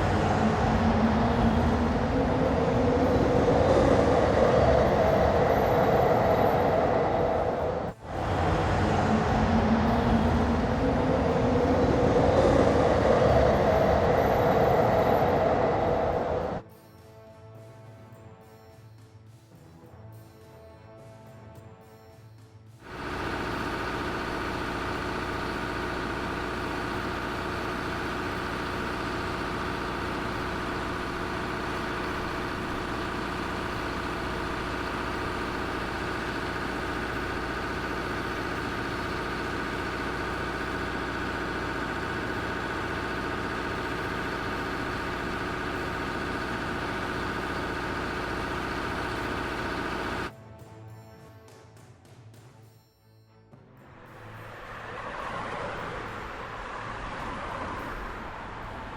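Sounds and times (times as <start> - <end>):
heavy machine engine running: 0.0 - 16.6, 22.9 - 50.3, 54.2 - 58.9.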